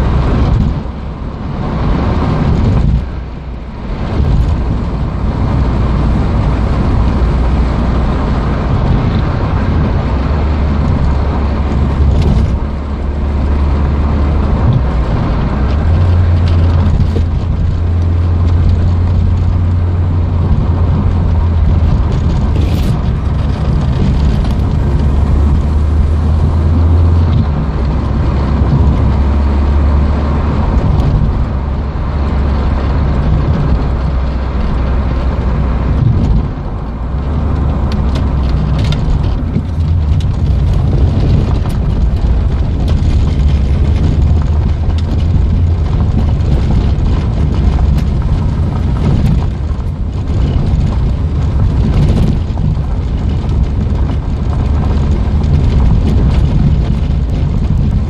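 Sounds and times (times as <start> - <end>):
car engine drone from inside: 0.0 - 58.0
road noise: 0.0 - 58.0.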